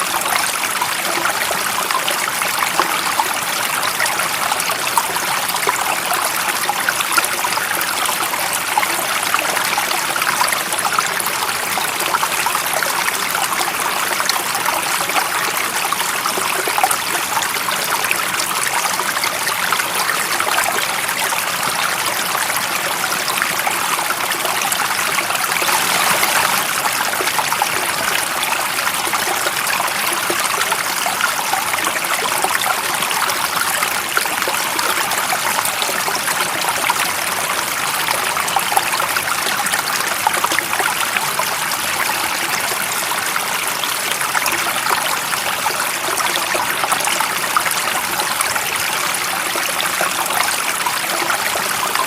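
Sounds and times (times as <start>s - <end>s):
stream water running: 0.0s - 52.0s.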